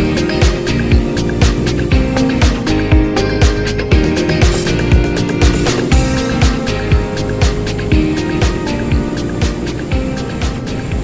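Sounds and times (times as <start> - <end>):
funk music with drums and guitar: 0.0 - 11.0.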